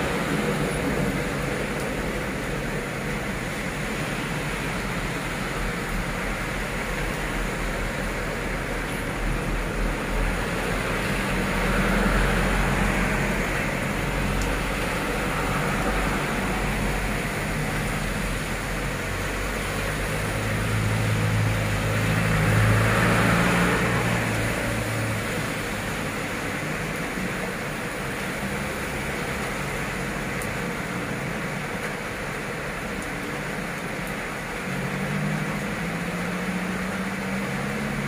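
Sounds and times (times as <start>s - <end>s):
heavy rain on pavement: 0.0s - 38.0s
vehicles passing on wet road: 0.0s - 38.0s.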